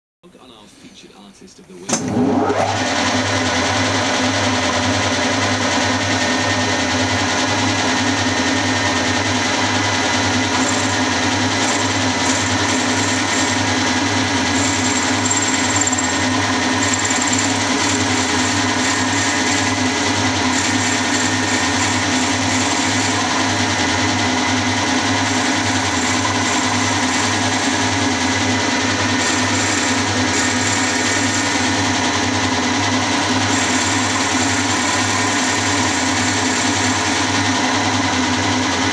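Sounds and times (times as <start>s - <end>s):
high cutter whine: 1.9s - 38.9s
milling machine whirring: 1.9s - 38.9s.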